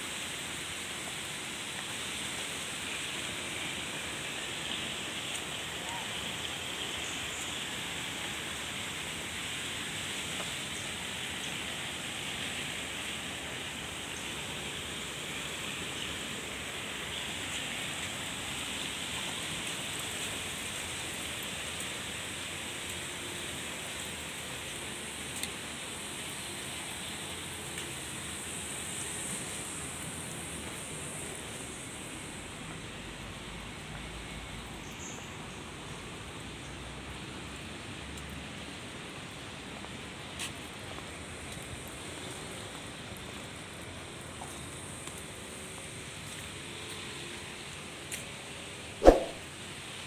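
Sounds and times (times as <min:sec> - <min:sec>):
rushing outdoor ambience: 0:00.0 - 0:36.5, 0:37.1 - 0:50.0.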